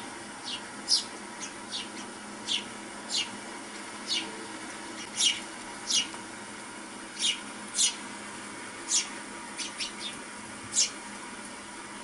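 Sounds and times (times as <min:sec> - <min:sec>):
sparrows chirping: 0:00.3 - 0:06.4, 0:07.0 - 0:11.1.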